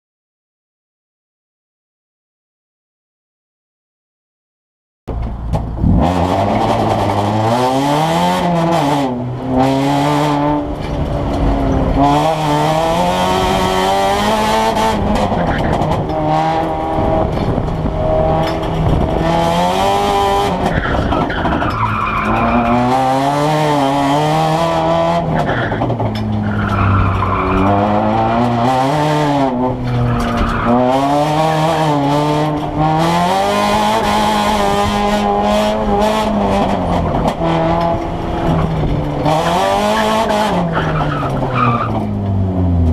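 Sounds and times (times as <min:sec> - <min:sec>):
race car engine revving: 0:05.5 - 0:42.9.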